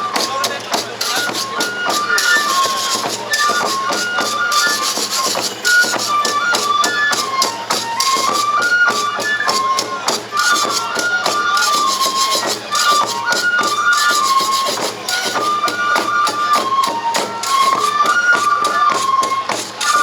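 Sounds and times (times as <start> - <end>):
bamboo flute melody: 0.0 - 20.0
fast percussion beats: 0.0 - 20.0.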